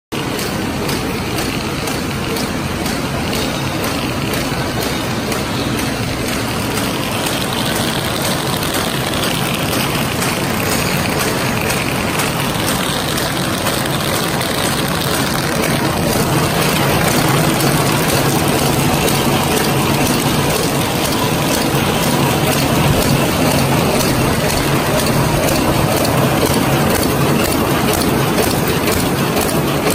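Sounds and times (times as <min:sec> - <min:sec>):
machine running: 0:00.2 - 0:29.9.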